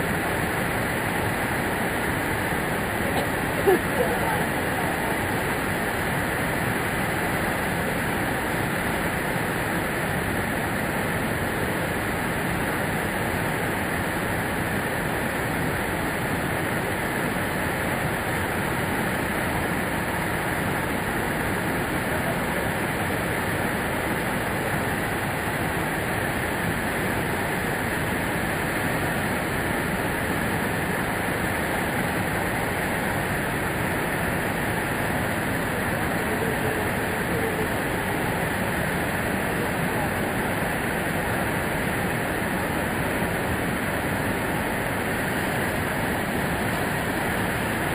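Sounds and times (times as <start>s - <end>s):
waterfall rushing: 0.0s - 10.4s, 18.0s - 47.9s.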